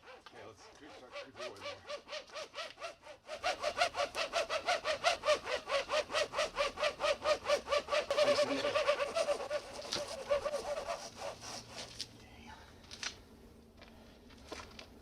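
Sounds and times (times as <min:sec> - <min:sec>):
hand saw cutting wood: 0:00.0 - 0:12.0.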